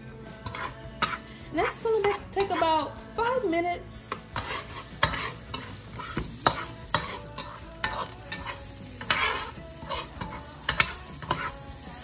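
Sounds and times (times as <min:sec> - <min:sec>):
onions sizzling: 0:00.0 - 0:02.9, 0:04.0 - 0:12.0
spatula scraping a frying pan: 0:00.2 - 0:02.9, 0:04.1 - 0:12.0.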